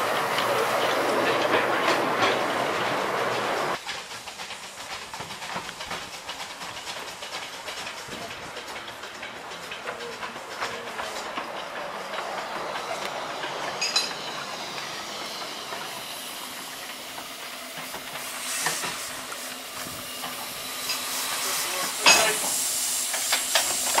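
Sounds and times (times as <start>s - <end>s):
rush of steam: 0.0s - 24.0s
steam hissing: 0.0s - 24.0s.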